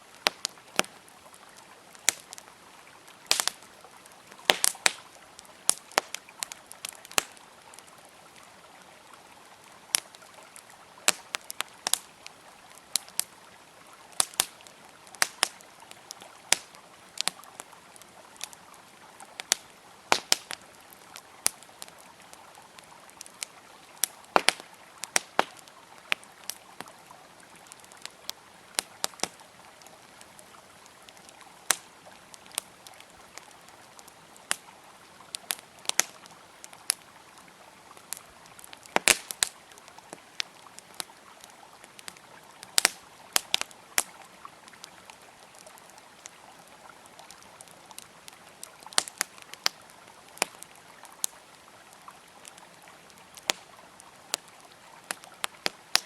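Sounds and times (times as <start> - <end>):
campfire crackling: 0.0 - 56.0
river water flowing: 0.0 - 56.0.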